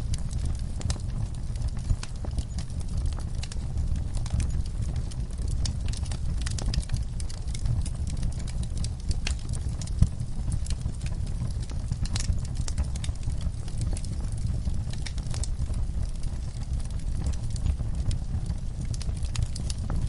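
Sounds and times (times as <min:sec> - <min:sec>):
fire pops and snaps: 0:00.0 - 0:20.0
low rumble of flames: 0:00.0 - 0:20.0
wood fire crackling: 0:00.0 - 0:20.0.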